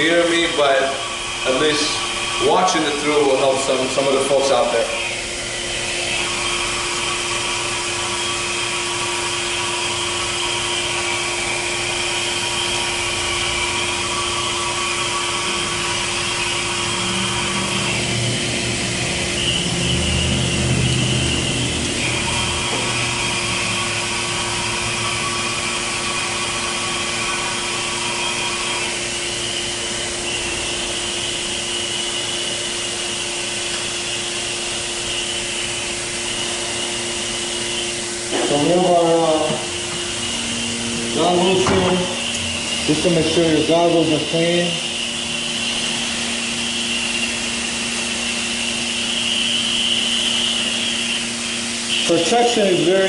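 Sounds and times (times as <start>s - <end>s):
air supply hum: 0.0s - 53.0s
respirator air hissing: 0.0s - 53.0s.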